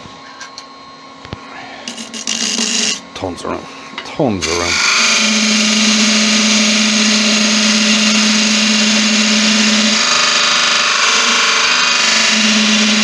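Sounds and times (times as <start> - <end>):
lathe humming: 1.6 - 13.0.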